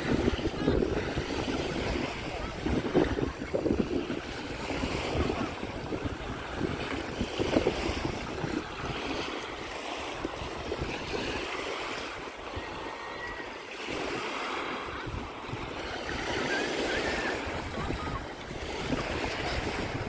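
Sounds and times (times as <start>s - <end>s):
small waves washing on sand: 0.0s - 20.0s.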